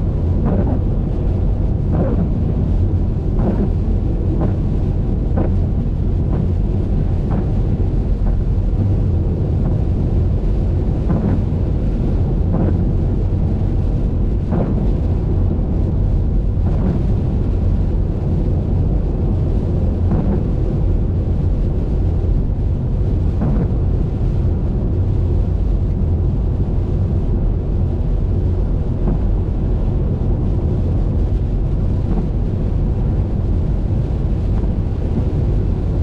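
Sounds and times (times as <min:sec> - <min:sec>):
car driving on wet road: 0:00.0 - 0:36.0.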